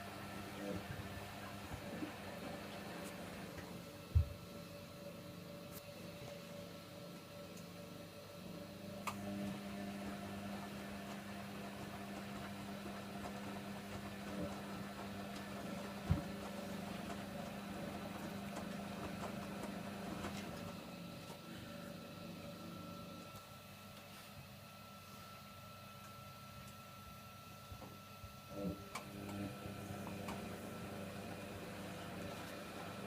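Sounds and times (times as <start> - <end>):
washing machine drum motor humming: 0.0 - 24.0, 27.6 - 33.0.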